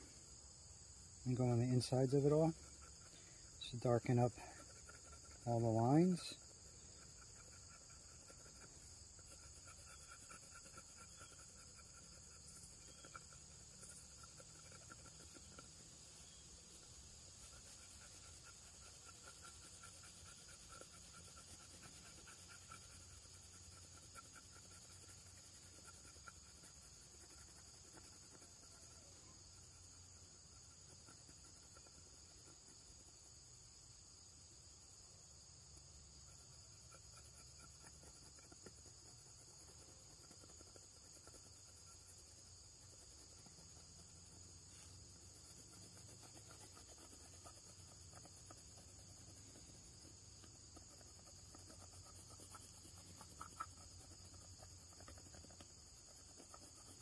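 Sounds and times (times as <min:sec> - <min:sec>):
faint high-pitched hiss: 0:00.0 - 0:57.0.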